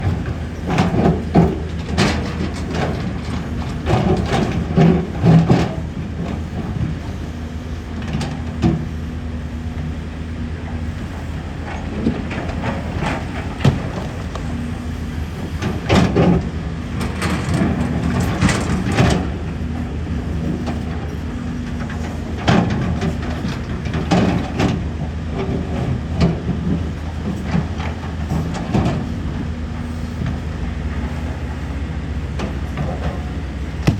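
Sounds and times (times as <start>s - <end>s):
diesel engines running: 0.0s - 33.9s.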